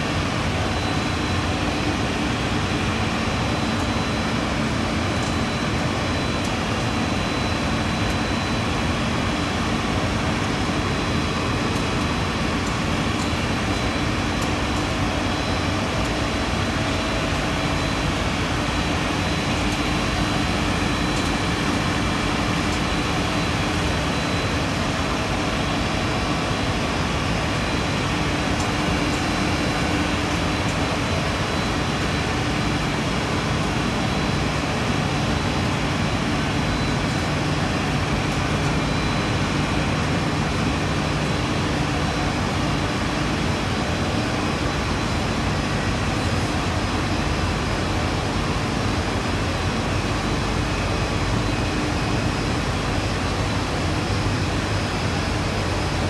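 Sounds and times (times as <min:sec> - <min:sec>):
high-pitched whine: 0:00.0 - 0:56.0
machinery hum: 0:00.0 - 0:56.0.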